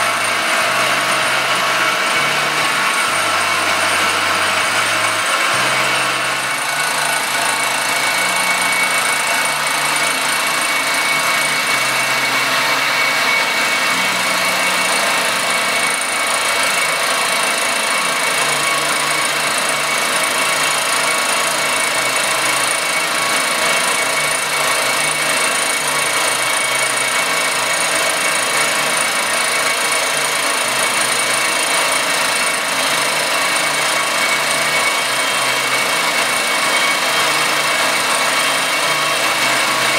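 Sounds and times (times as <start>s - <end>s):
milling machine cutting aluminum: 0.0s - 39.9s.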